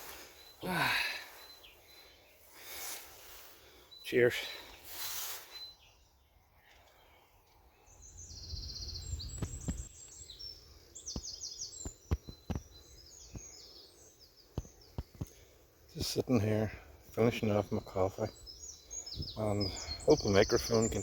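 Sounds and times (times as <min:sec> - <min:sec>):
birds singing: 0:00.0 - 0:21.0.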